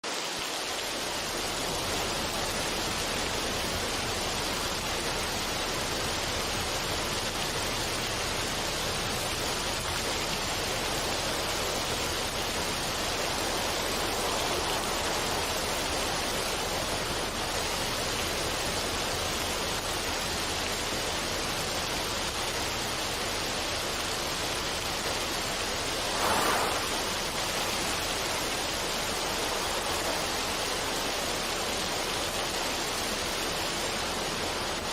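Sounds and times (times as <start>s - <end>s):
running water: 0.0s - 34.9s.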